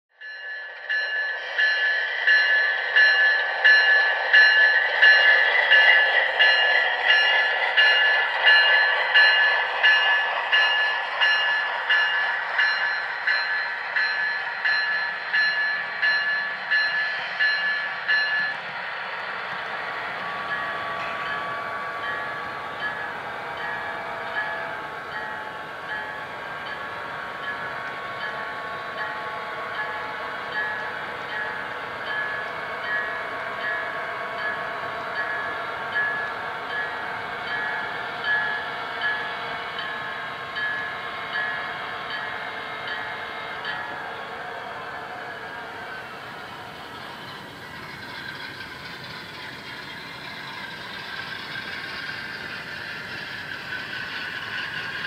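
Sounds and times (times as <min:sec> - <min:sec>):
train running: 0:00.1 - 0:55.0
train bell ringing: 0:00.2 - 0:55.0.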